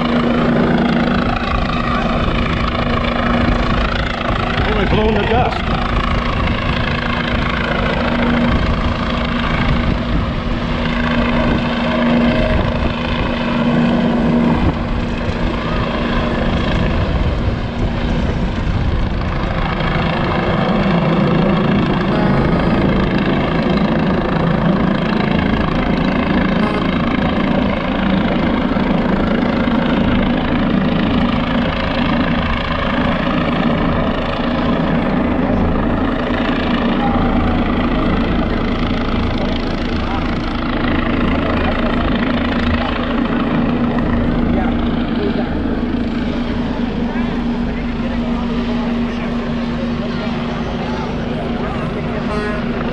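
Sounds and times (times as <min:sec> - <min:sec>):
helicopter rotor and turbine: 0:00.0 - 0:52.9.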